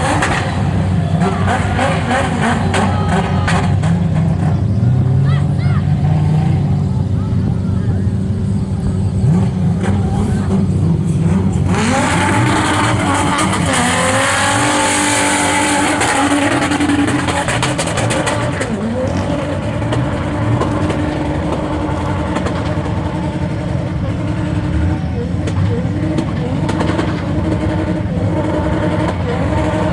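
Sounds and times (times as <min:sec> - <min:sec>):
car engine at high revs: 0:00.0 - 0:29.9.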